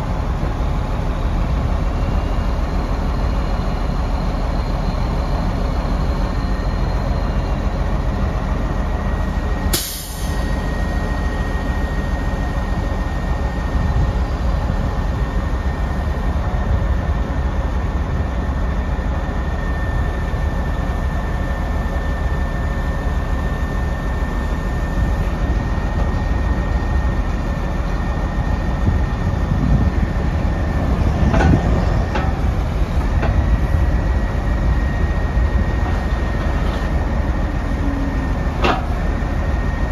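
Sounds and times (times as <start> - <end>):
diesel truck engine rumble: 0.0 - 39.9
high hydraulic whine: 0.0 - 39.9.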